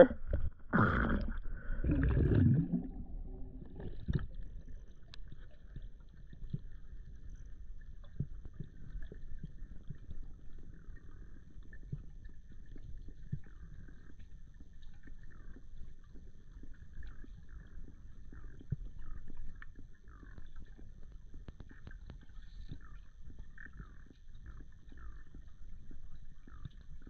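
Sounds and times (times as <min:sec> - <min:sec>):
faint underwater clicks: 0:00.0 - 0:27.0
muffled underwater rumbling: 0:00.0 - 0:27.0.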